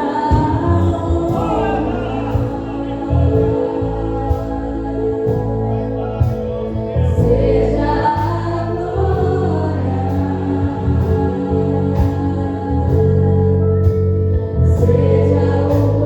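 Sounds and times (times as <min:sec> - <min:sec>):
person singing: 0:00.0 - 0:13.6
bass line: 0:00.0 - 0:16.0
sustained instruments: 0:00.0 - 0:16.0.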